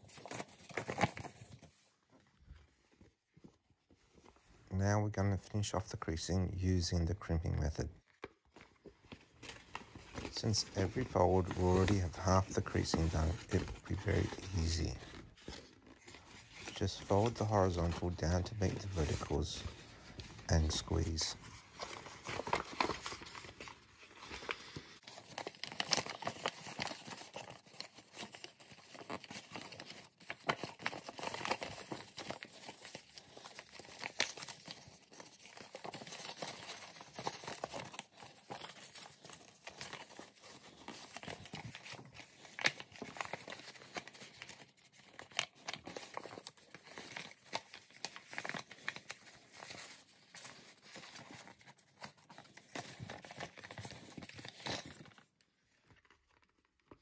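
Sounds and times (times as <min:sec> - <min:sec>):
paper crinkling and rustling: 0:00.0 - 0:57.0.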